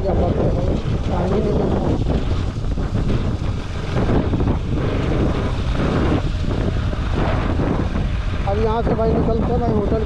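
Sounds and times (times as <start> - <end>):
motorcycle engine running: 0.0 - 10.0
wind noise on microphone: 0.0 - 10.0.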